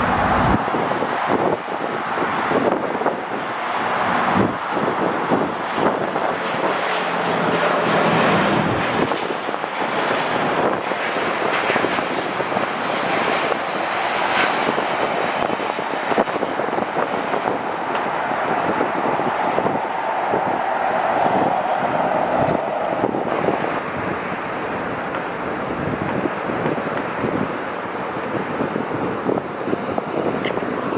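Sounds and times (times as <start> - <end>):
jet airliner taking off: 0.0 - 30.9.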